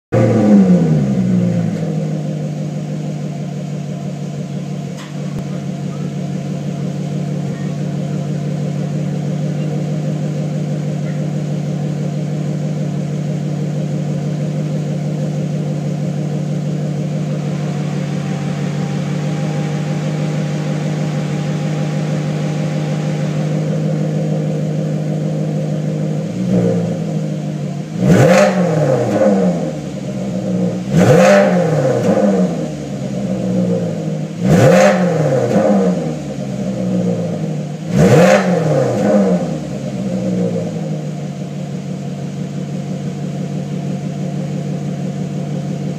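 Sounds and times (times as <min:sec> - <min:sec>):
car engine idling and revving: 0:00.1 - 0:45.9.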